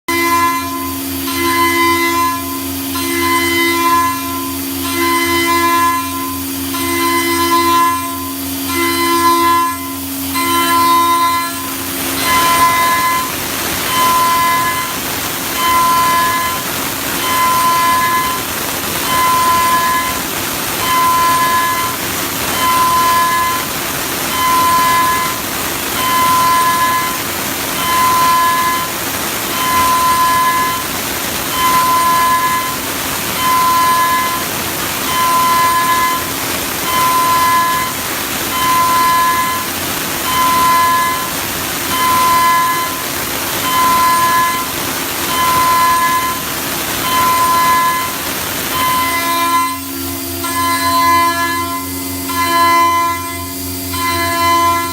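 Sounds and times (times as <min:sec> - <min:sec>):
milling spindle whine: 0:00.1 - 0:54.9.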